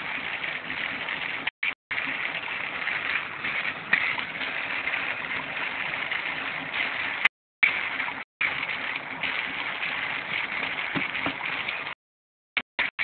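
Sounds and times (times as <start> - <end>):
electrolyser fizzing and bubbling: 0.0 - 12.0.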